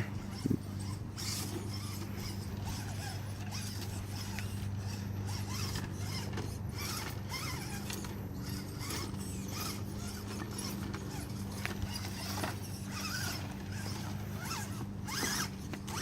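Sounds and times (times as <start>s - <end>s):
tires clicking and scraping on stone: 0.0s - 16.0s
toy car motor whirring: 0.0s - 16.0s.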